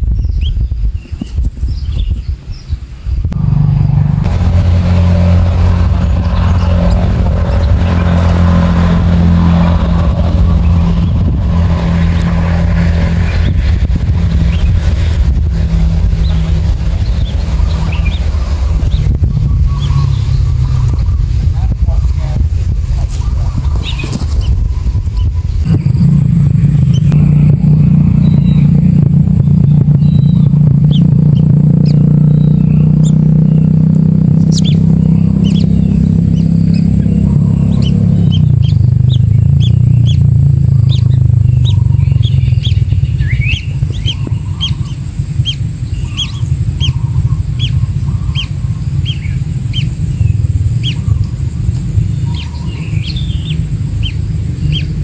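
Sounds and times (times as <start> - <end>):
loud low drone: 3.2 - 55.0.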